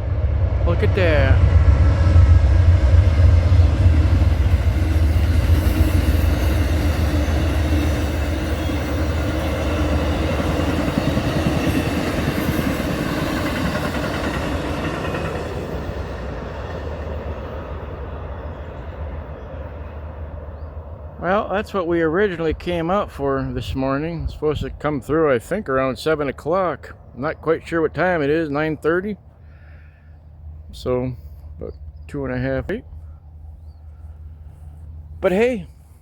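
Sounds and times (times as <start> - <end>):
passenger train rumbling past: 0.0 - 36.0.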